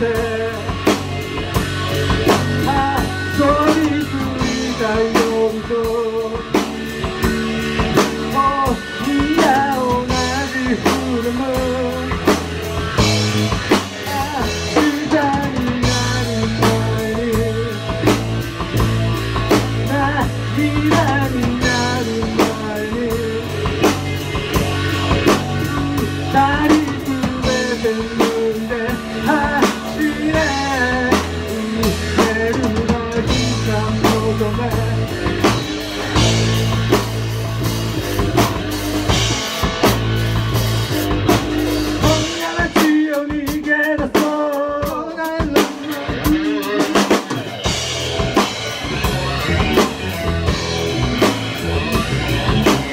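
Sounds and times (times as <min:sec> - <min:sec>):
person singing lead vocal: 0:00.0 - 0:07.1, 0:07.8 - 0:37.1, 0:41.6 - 0:52.9
bass guitar: 0:00.0 - 0:52.9
drum kit: 0:00.0 - 0:52.9
electric guitar: 0:00.0 - 0:52.9.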